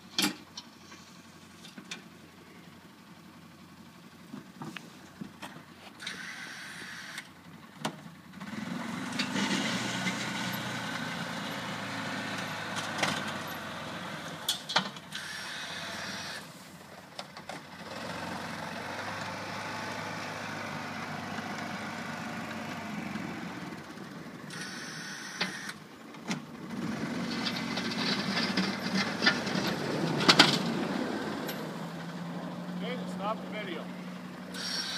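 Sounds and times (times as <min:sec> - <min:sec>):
utility vehicle engine plowing snow: 0:00.7 - 0:34.9.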